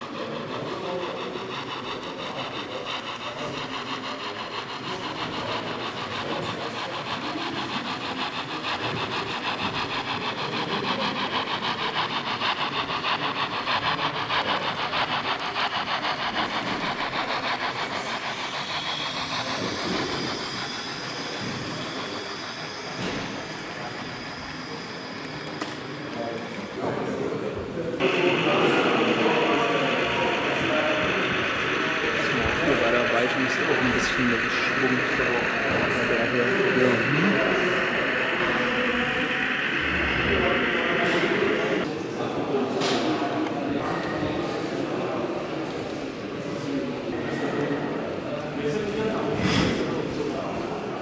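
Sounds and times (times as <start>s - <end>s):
model train wheels rattling: 0.0s - 27.3s, 27.9s - 41.9s.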